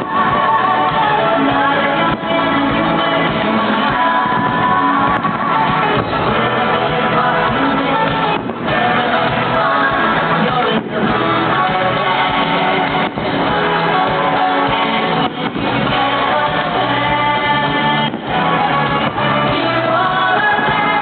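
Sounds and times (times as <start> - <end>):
song with singing and guitar: 0.0 - 21.0.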